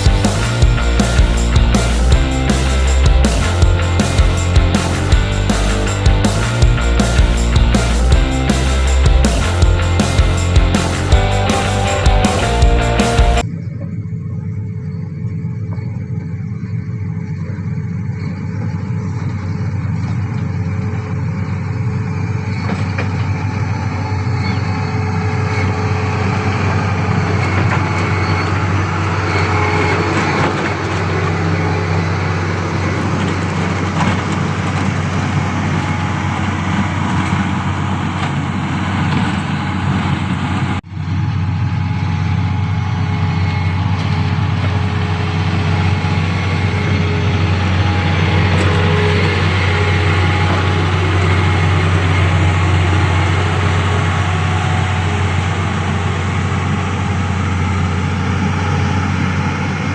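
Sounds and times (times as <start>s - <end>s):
heavy diesel machinery drone: 0.0s - 59.9s.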